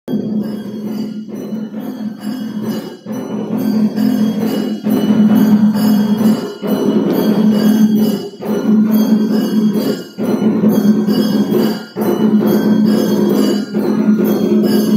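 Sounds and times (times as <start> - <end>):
bells ringing: 0.1 - 14.9
drums: 0.1 - 14.9.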